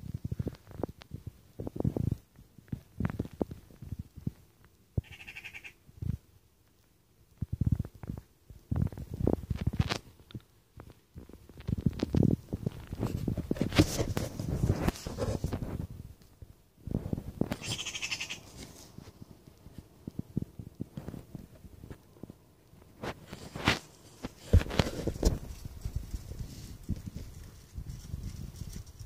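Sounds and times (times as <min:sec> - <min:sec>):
rustling noise: 0:00.0 - 0:04.5, 0:07.4 - 0:29.0.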